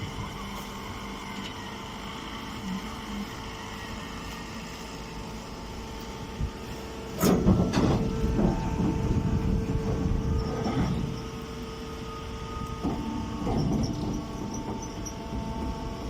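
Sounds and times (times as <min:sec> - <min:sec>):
hay baler humming: 0:00.0 - 0:16.0.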